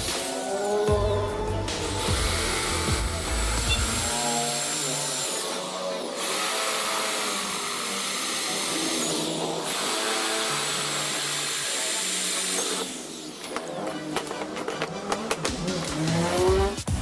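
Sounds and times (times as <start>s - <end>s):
electric drill whine: 0.0s - 13.8s.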